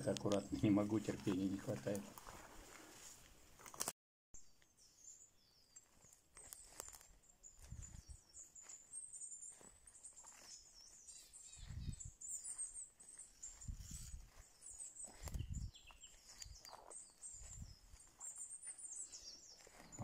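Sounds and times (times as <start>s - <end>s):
small birds chirping: 0.0s - 2.2s, 4.4s - 20.0s
soft footsteps on forest floor: 0.0s - 3.9s, 4.6s - 20.0s.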